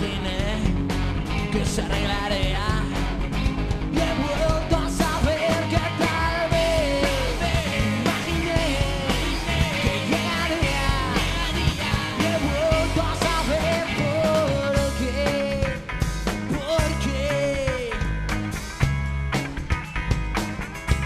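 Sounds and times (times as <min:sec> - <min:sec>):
man singing lead vocal: 0:00.0 - 0:03.1, 0:03.8 - 0:18.2
live rock band playing: 0:00.0 - 0:21.0.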